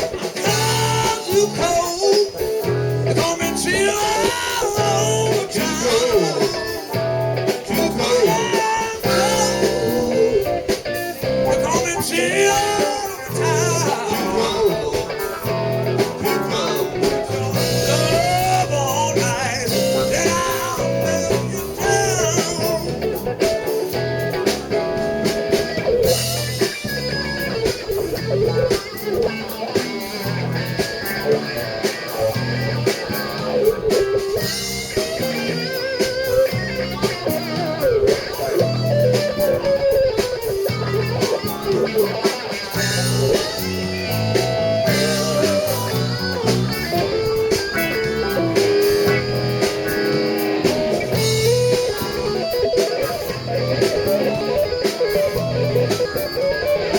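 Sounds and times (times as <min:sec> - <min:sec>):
bass: 0:00.0 - 0:56.9
drums: 0:00.0 - 0:56.9
electric guitar solo: 0:00.0 - 0:56.9.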